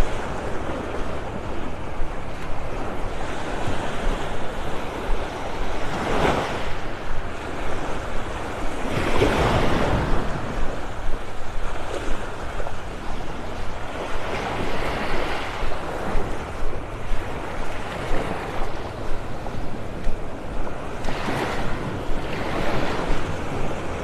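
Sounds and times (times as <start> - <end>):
small waves breaking on sand: 0.0 - 24.0
wind rumble on microphone: 0.0 - 24.0.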